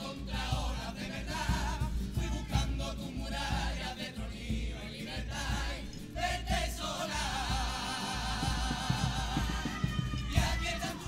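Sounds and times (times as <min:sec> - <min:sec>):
guitars: 0:00.0 - 0:11.0
young voices singing in harmony: 0:00.0 - 0:11.0
drum beating: 0:00.1 - 0:11.0.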